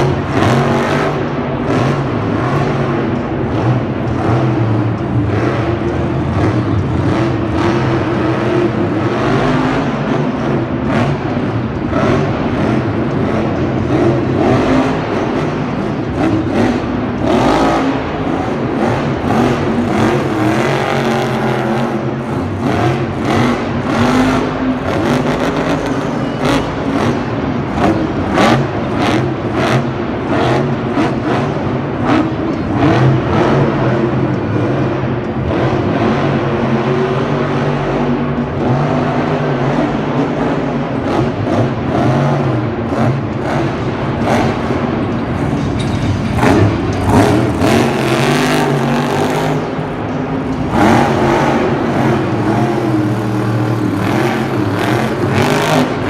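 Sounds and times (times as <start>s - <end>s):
engine running and revving: 0.0s - 56.0s.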